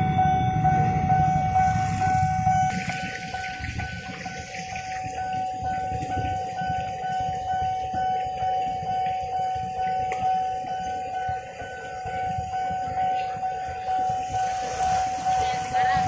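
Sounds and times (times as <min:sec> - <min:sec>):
level-crossing warning bell ringing: 0:00.0 - 0:16.0
motorcycle engines idling: 0:00.0 - 0:16.0.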